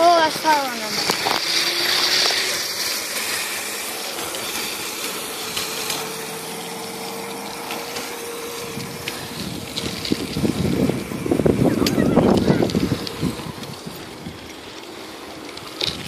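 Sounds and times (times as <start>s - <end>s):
rushing noise on microphone: 0.0s - 16.0s.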